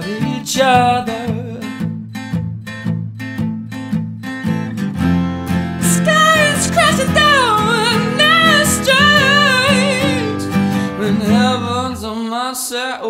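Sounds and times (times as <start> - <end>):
strummed acoustic guitar: 0.0 - 12.5.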